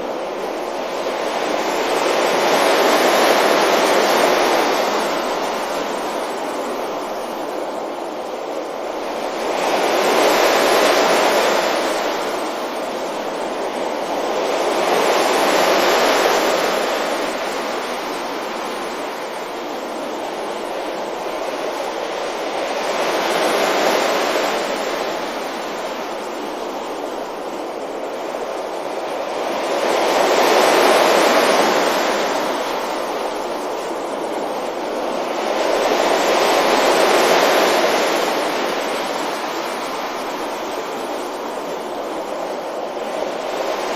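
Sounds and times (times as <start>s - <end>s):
sea waves breaking on beach: 0.0s - 43.9s.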